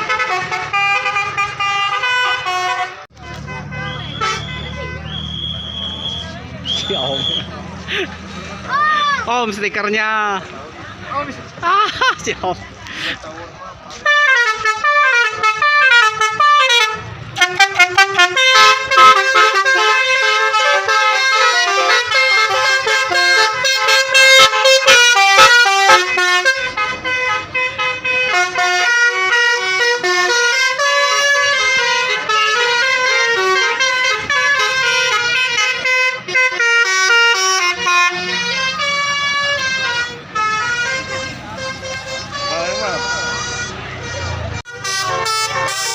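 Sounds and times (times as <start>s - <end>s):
musical bus horn melody: 0.0s - 6.4s, 13.9s - 45.9s.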